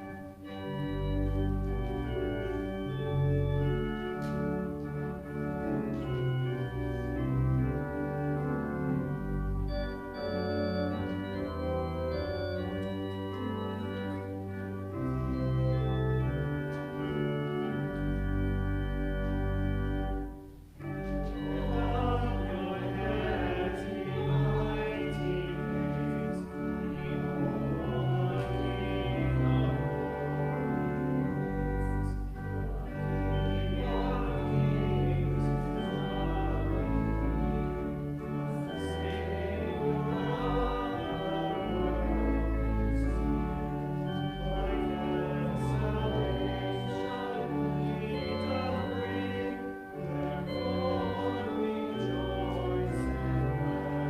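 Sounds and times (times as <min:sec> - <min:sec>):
church organ playing a hymn: 0:00.0 - 0:54.0
congregation singing: 0:00.0 - 0:54.0.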